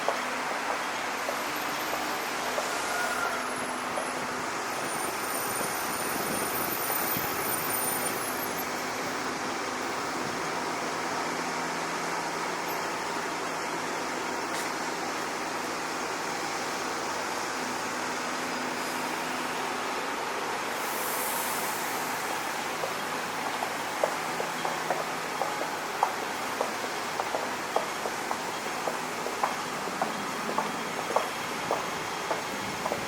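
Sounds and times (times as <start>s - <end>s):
engine and traffic rumble: 0.0s - 33.0s.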